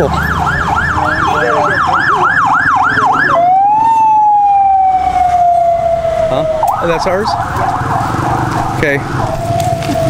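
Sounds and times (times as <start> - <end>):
electronic siren yelp and wail: 0.0 - 10.0.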